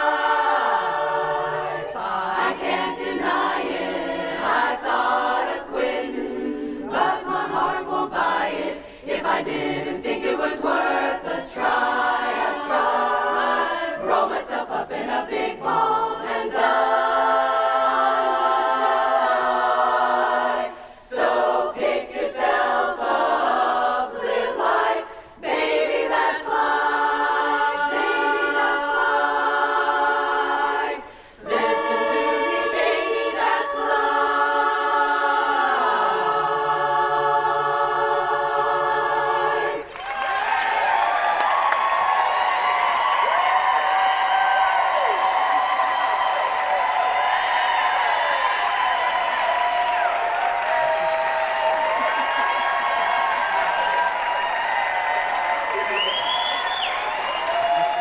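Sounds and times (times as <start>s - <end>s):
women's chorus singing a cappella: 0.0s - 58.0s.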